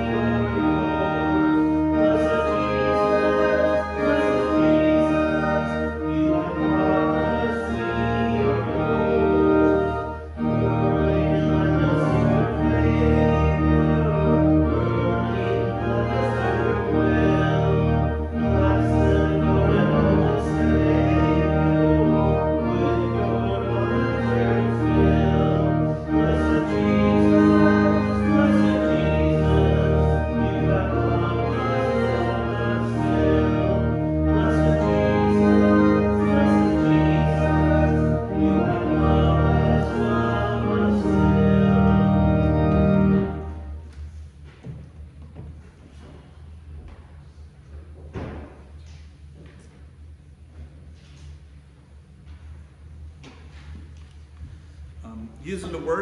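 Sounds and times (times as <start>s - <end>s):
church organ playing a hymn: 0.0s - 56.0s.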